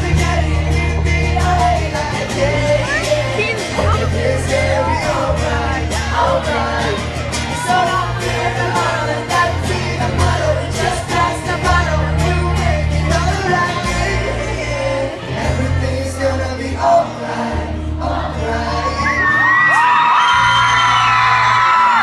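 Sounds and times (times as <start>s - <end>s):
low bass line: 0.0s - 19.3s
people singing: 0.0s - 20.2s
live pop band playing: 0.0s - 22.0s.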